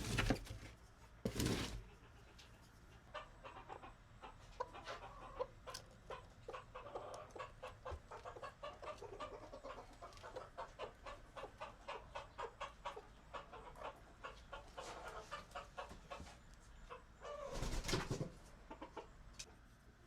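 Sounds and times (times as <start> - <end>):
hens clucking: 1.2 - 19.6.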